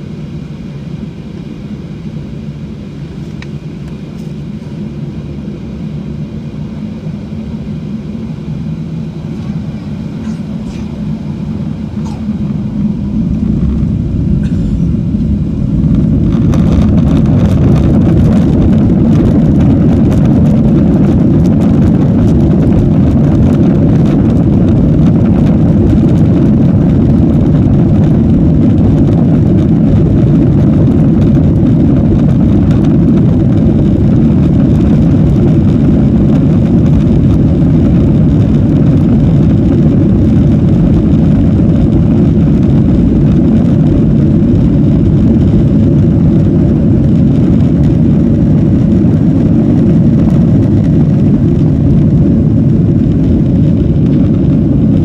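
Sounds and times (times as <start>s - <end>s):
jet engines rumbling from cabin: 0.0s - 55.0s.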